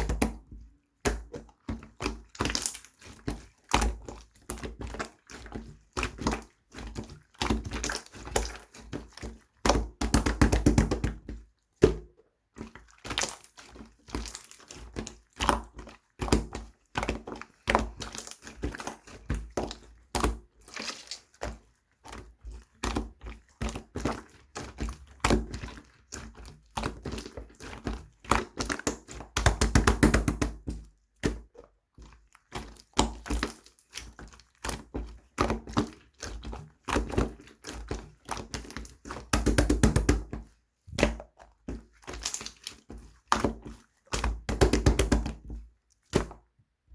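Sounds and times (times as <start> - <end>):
slime squished by hand: 1.0 - 46.4.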